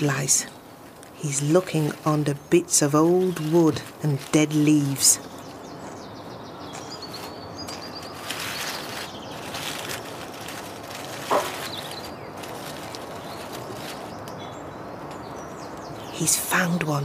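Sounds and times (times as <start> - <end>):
hands rustling dry leaves: 0.0 - 16.7
garden ambience: 0.0 - 17.0.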